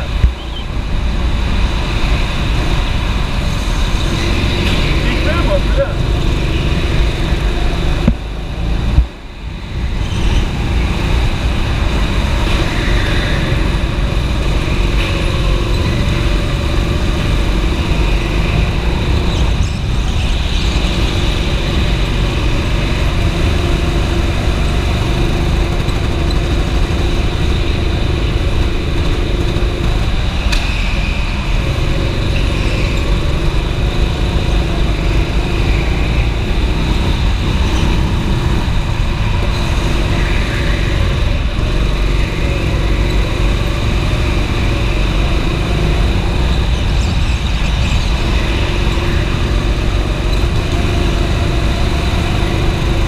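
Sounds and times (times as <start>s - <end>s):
go-kart engine running: 0.0s - 53.0s
vibration rumble: 0.0s - 53.0s.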